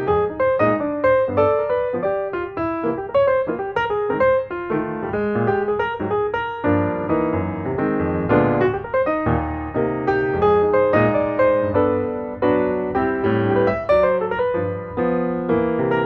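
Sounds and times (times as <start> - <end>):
light piano tune: 0.0 - 16.0.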